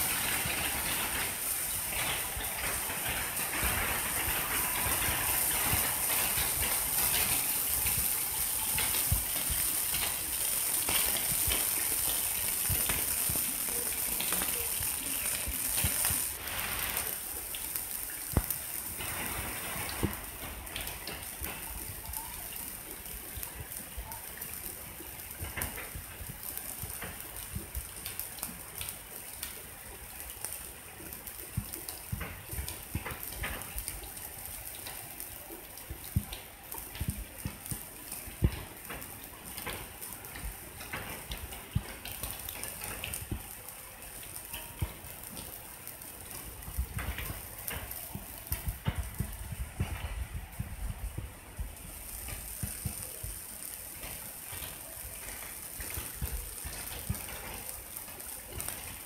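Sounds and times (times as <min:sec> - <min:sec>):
rain falling: 0:00.0 - 0:59.0
water drips: 0:00.0 - 0:59.0.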